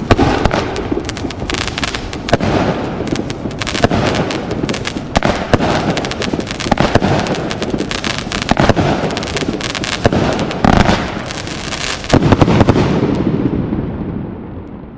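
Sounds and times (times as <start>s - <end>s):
firework bangs and crackling: 0.0s - 14.9s.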